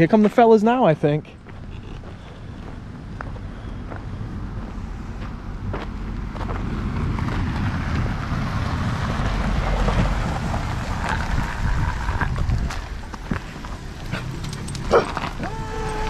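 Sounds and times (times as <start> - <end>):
vehicle approaching: 1.2 - 16.0
wind buffeting microphone: 1.4 - 16.0.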